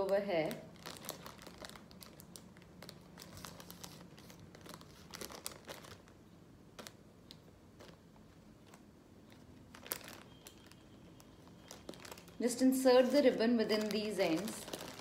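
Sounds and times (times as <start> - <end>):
foil balloon crinkling: 0.0 - 15.0.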